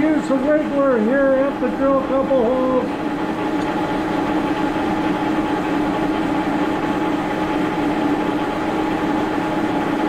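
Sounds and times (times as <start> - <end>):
milling machine humming: 0.0 - 10.0.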